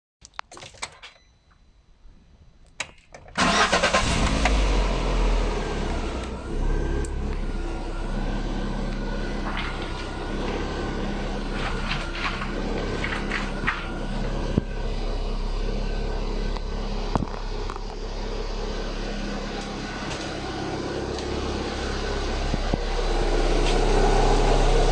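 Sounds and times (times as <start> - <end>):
car engine starting and idling: 3.3 - 24.9.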